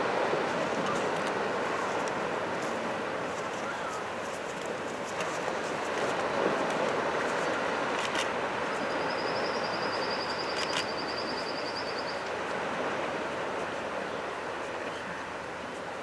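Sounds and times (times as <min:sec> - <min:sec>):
surf washing on beach: 0:00.0 - 0:16.0.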